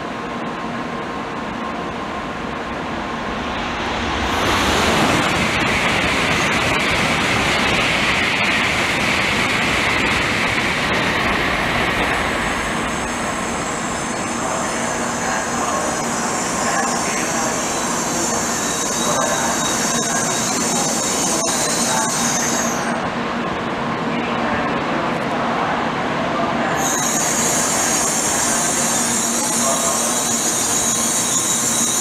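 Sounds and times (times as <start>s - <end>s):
train rushing noise: 0.0s - 32.0s.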